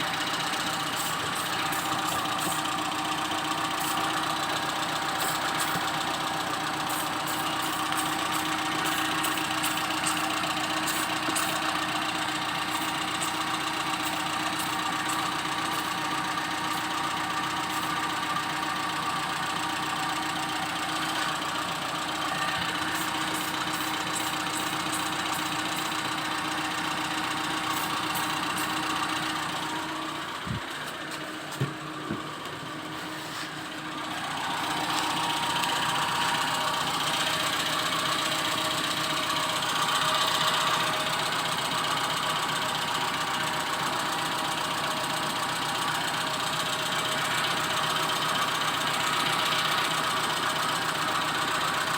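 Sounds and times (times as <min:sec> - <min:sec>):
car engine idling with ticking: 0:00.0 - 0:51.9.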